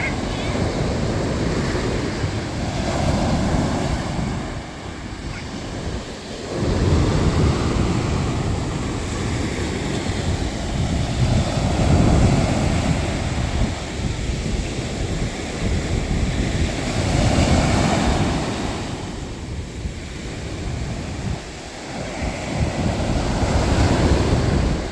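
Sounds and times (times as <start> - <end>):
sea surf washing ashore: 0.0 - 24.9.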